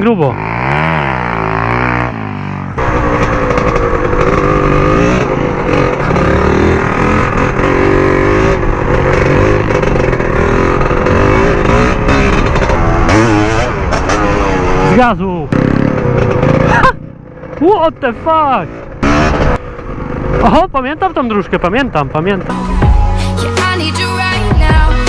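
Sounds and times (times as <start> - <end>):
motorbike engine revving: 0.0 - 23.0.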